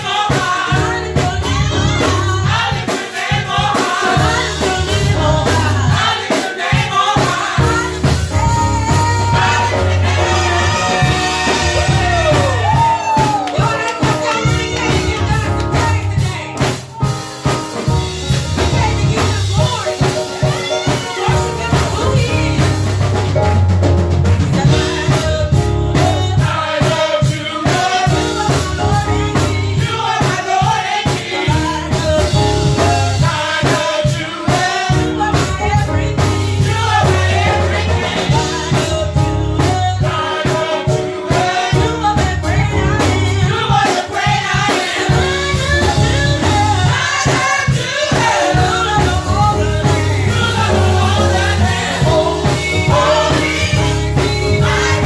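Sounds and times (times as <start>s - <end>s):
band playing: 0.0s - 55.0s
drum kit beat: 0.0s - 55.0s
gospel choir singing: 0.0s - 55.0s.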